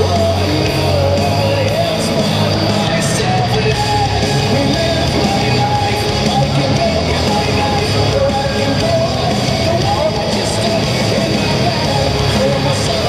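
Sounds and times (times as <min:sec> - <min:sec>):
heavy rock music: 0:00.0 - 0:13.0
person singing: 0:00.0 - 0:13.0.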